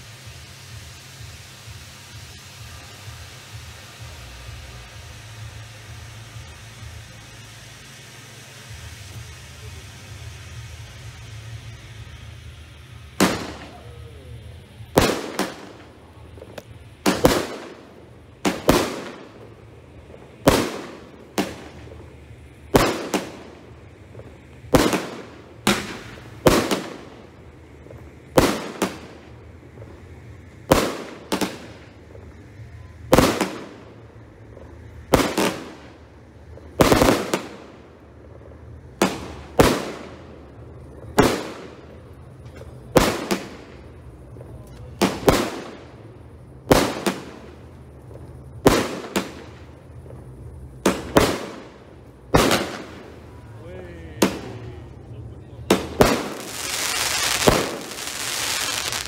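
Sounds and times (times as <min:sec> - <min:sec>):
fireworks banging: 0:00.0 - 0:59.0.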